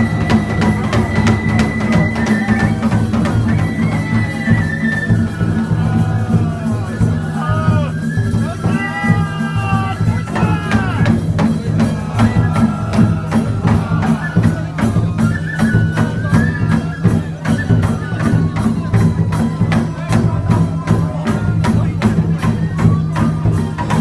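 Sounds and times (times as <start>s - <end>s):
drums: 0.0s - 24.0s
quick percussion strikes: 0.0s - 24.0s.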